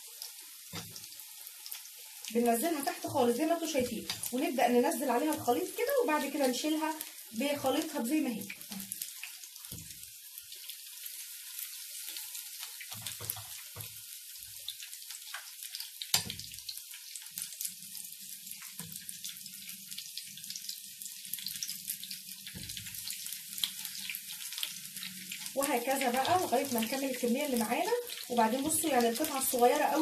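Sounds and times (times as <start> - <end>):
deep-frying sizzle and crackling: 0.0 - 30.0.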